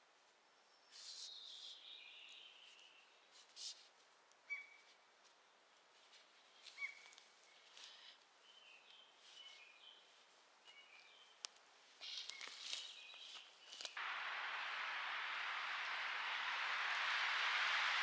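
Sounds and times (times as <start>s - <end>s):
faint birds chirping and whistling: 0.5s - 3.3s, 4.4s - 5.0s, 6.5s - 18.0s.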